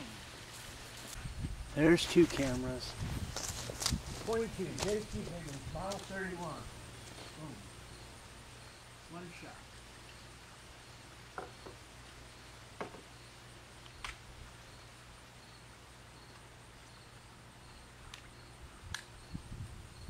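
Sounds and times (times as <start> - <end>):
insect chirping: 0.0 - 20.0
steady low hum: 0.0 - 20.0.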